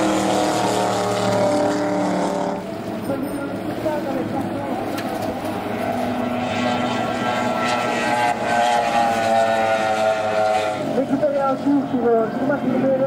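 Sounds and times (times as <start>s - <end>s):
outboard motor at full throttle: 0.0s - 13.0s.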